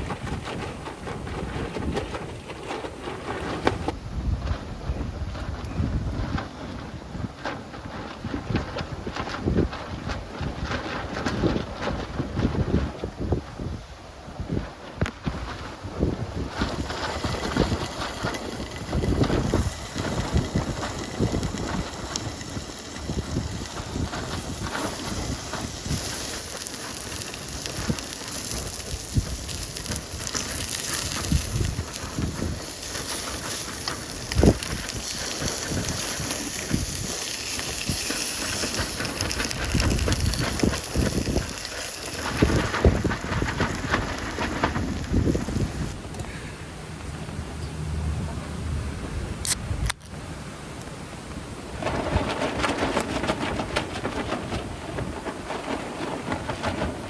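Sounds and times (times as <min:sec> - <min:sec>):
gusty wind buffeting microphone: 0:00.0 - 0:57.0.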